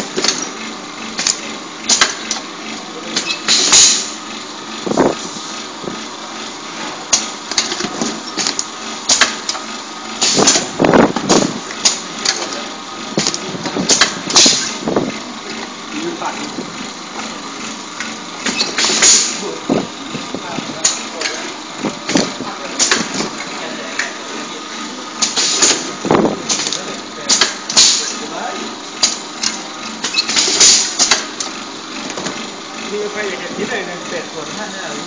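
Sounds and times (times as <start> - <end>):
bottling machine mechanical hum: 0.0 - 35.0.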